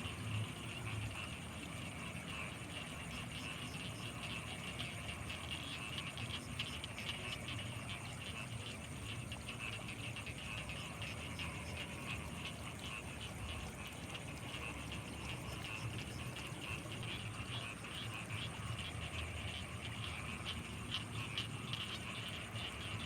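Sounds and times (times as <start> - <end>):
frogs chattering: 0.0 - 23.0.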